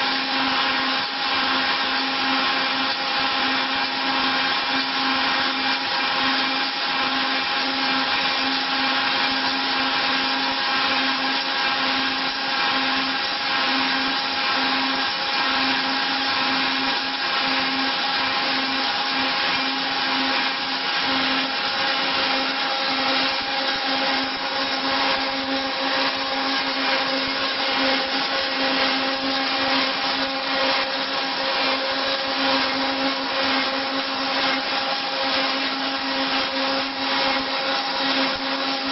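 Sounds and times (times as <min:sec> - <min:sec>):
milling machine whirring: 0:00.0 - 0:38.9.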